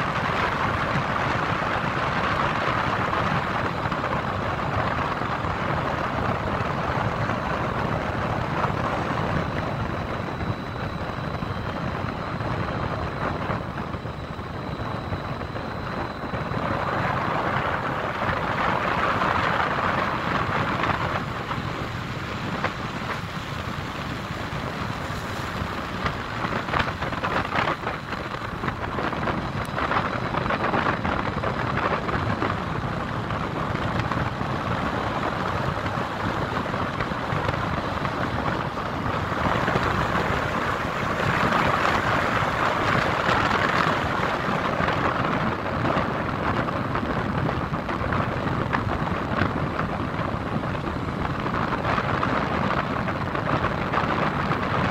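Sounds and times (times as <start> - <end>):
city traffic noise: 0.0 - 54.9.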